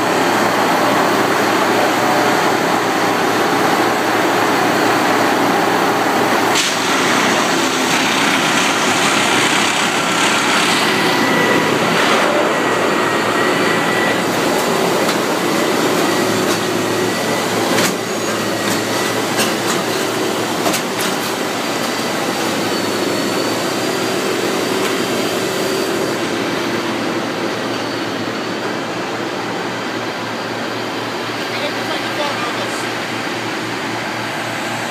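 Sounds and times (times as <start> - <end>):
engines and hydraulics droning: 0.0 - 34.9.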